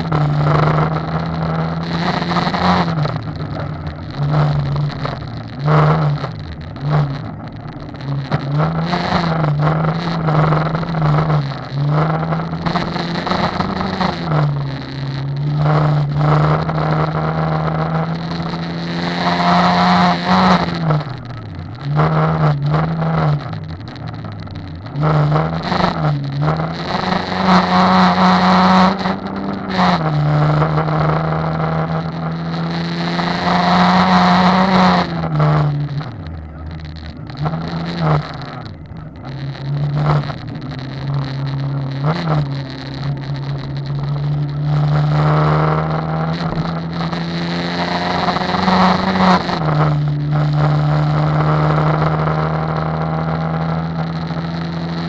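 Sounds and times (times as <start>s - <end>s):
rally car engine from inside cabin: 0.0s - 55.0s.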